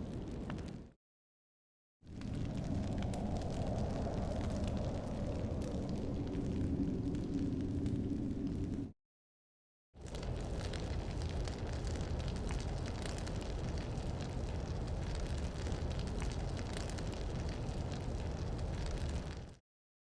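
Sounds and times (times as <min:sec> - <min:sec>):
fire crackling and rumbling: 0:00.0 - 0:01.0, 0:02.0 - 0:09.0, 0:10.0 - 0:19.6.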